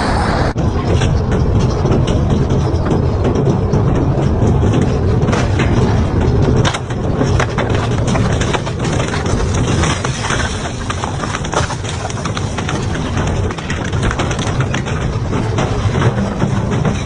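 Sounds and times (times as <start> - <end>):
industrial shredder grinding: 0.6 - 17.0
metal cracking and snapping: 0.6 - 17.0.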